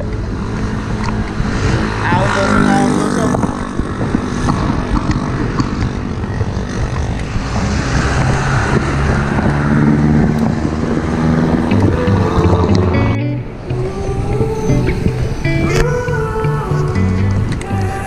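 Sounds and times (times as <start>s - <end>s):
vehicle engine droning: 0.0s - 18.0s
wind on microphone: 0.0s - 18.0s.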